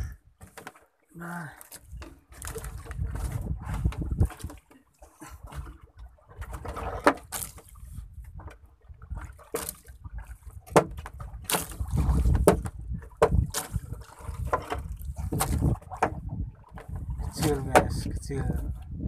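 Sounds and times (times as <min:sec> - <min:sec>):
water sounds: 0:00.0 - 0:19.0.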